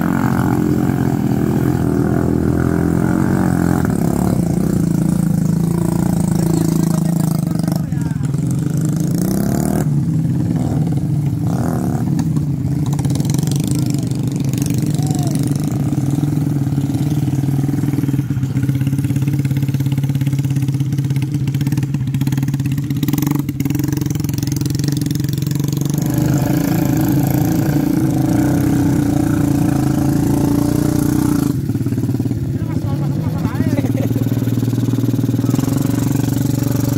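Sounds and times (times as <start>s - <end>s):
motorcycle engines running: 0.0s - 36.9s.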